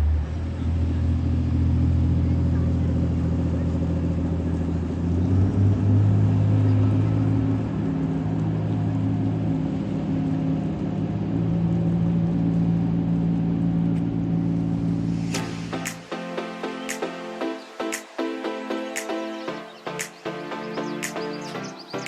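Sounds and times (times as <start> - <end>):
car engine and road drone: 0.0 - 22.0.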